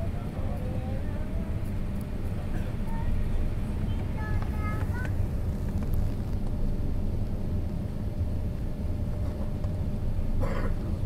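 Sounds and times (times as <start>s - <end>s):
airplane cabin engine rumble: 0.0s - 11.0s
faint steady hum: 0.0s - 11.0s.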